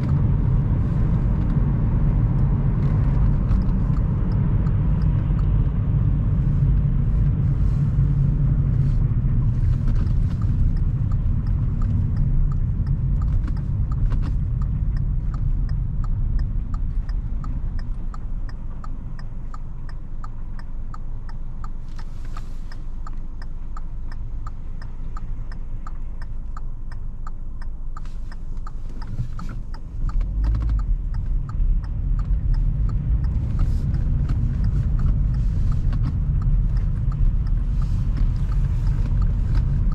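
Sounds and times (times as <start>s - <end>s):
car engine and road rumble: 0.0s - 39.9s
light ticking: 1.4s - 39.9s.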